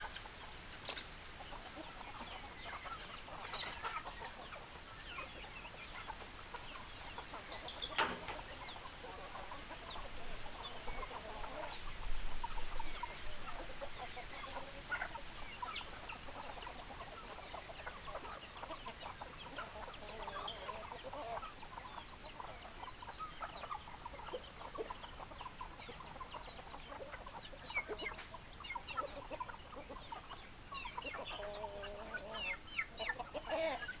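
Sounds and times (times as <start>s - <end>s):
hens clucking: 0.0s - 34.0s.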